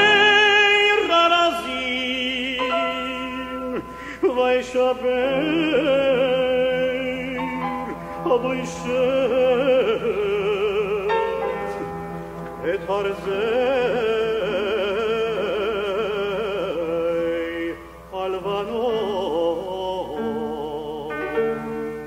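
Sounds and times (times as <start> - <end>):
man singing operatic chant: 0.0 - 11.6, 12.6 - 21.6
held accompanying chords: 0.0 - 22.0.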